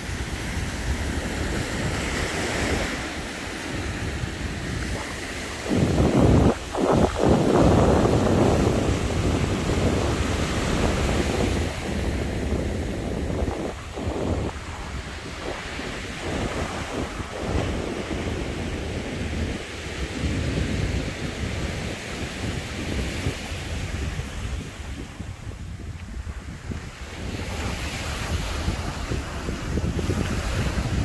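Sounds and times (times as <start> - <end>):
sea surf breaking: 0.0 - 31.0
wind buffeting microphone: 0.0 - 31.0.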